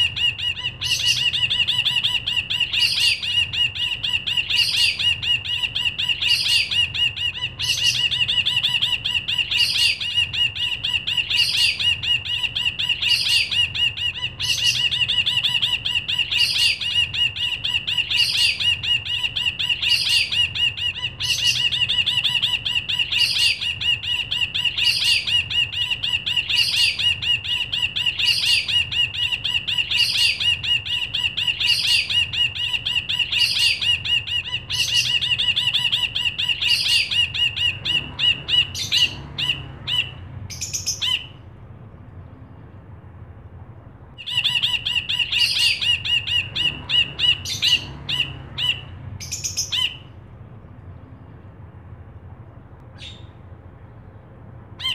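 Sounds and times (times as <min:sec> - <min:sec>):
bulbul singing a fast trill: 0:00.0 - 0:41.4, 0:44.2 - 0:50.2, 0:53.0 - 0:53.4.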